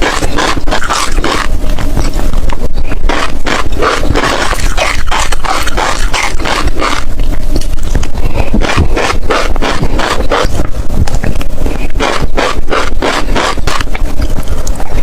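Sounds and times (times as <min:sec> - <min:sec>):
crunchy chewing of seeds: 0:00.0 - 0:15.0.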